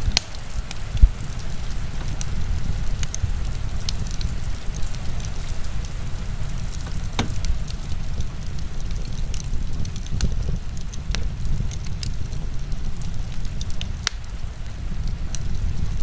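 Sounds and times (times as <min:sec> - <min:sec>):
heavy rain: 0:00.0 - 0:16.0
wood fire crackling: 0:00.0 - 0:16.0.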